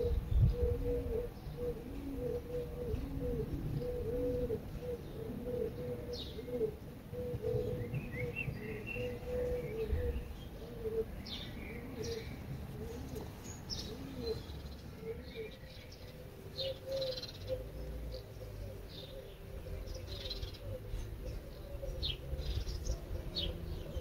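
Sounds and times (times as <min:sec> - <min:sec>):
birds calling low repeated notes: 0:00.0 - 0:24.0.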